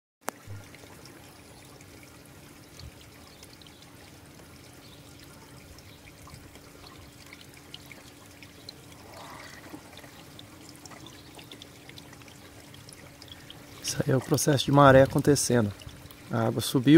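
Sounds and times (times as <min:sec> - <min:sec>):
water trickling and pouring: 0:00.2 - 0:16.9.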